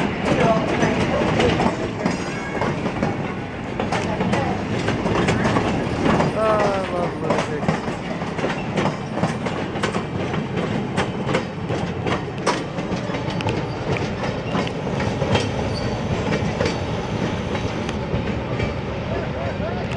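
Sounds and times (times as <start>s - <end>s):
train cars rumbling past: 0.0s - 19.9s
wheels clicking over rail joints: 0.2s - 18.8s.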